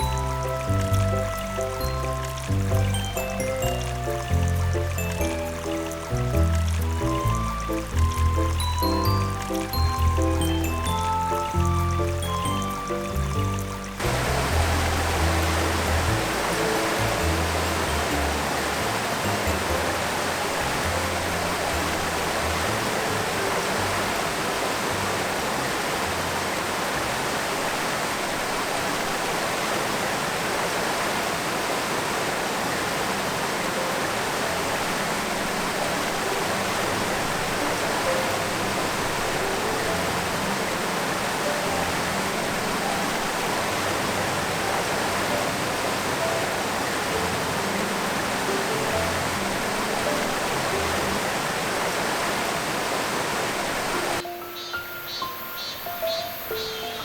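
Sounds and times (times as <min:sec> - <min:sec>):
soft background music: 0:00.0 - 0:27.8, 0:32.5 - 0:52.7, 0:53.7 - 0:57.0
water rushing: 0:00.0 - 0:57.0.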